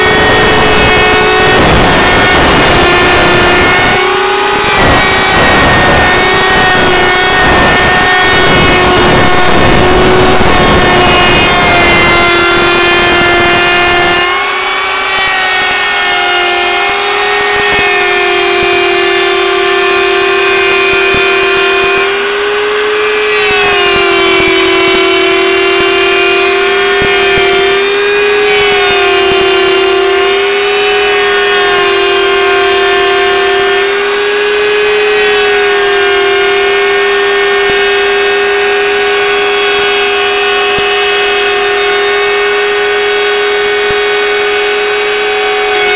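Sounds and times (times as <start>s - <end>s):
router motor whine cutting wood: 0.0s - 45.9s.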